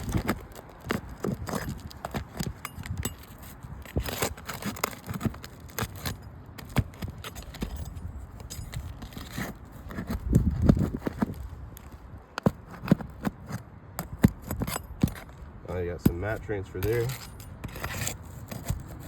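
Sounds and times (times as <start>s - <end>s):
roofing tool prying shingles: 0.0s - 19.0s.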